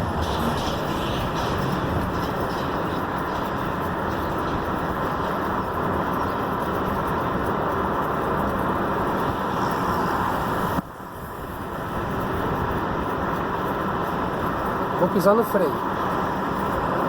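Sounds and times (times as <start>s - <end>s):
road and tyre noise: 0.0s - 17.0s.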